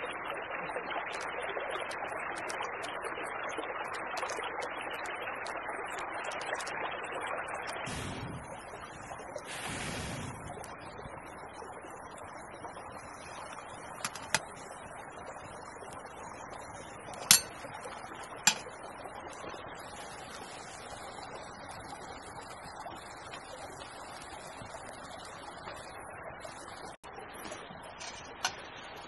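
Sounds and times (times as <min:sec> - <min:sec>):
creek running: 0:05.5 - 0:29.0.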